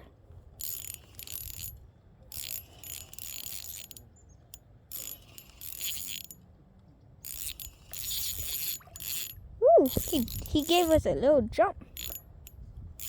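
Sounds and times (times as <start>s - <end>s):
fishing reel whirring and clicking: 0.6s - 6.4s, 7.2s - 11.0s, 11.9s - 13.0s.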